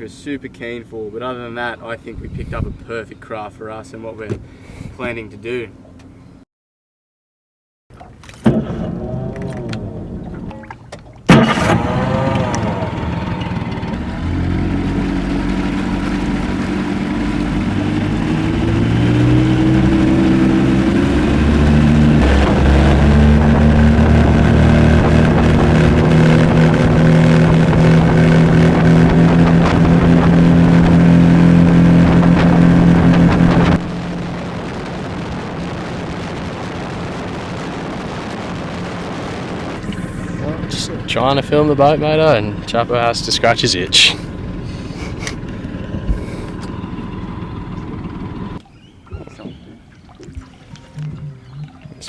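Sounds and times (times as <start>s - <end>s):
outboard motor running: 8.0s - 52.0s.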